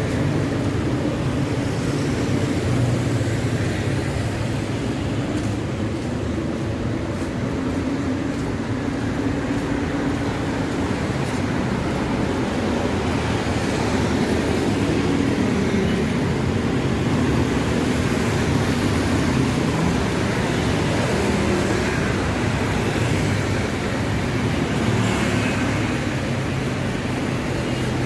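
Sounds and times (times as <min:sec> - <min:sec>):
road noise: 0:00.0 - 0:28.0
vehicle engines running: 0:00.0 - 0:28.0.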